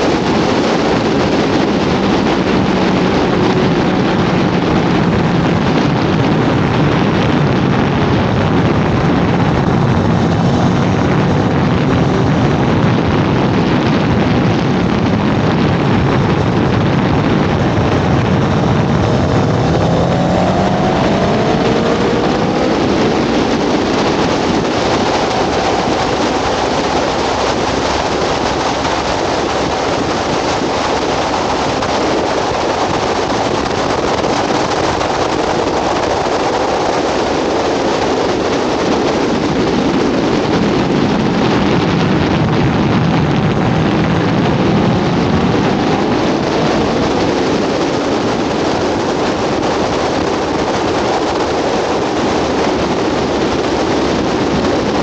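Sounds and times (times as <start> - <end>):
loud wind rush over microphone: 0.0 - 55.0
motorcycle engine running: 0.0 - 55.0.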